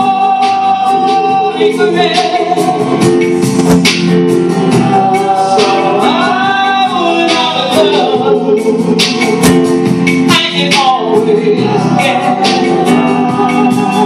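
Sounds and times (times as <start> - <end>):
man and women singing gospel: 0.0 - 3.4, 4.6 - 14.0
electronic keyboard: 0.0 - 14.0.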